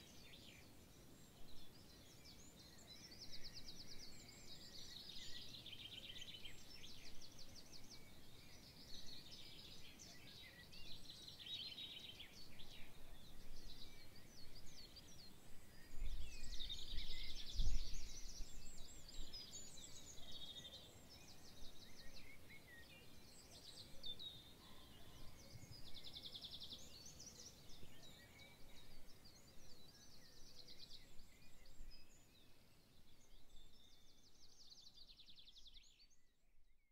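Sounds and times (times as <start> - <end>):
songbirds chirping and whistling: 0.0 - 36.2.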